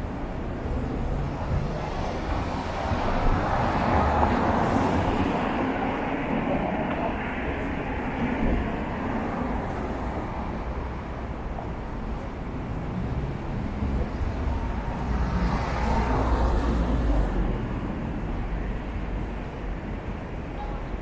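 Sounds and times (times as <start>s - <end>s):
street traffic rumbling: 0.0s - 21.0s.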